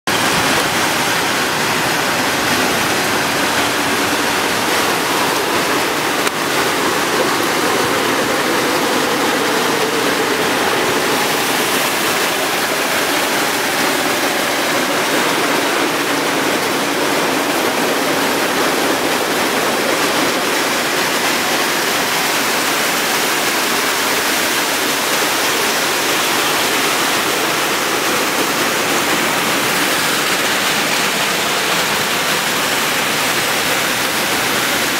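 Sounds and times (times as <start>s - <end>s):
machinery rushing noise: 0.1s - 34.9s.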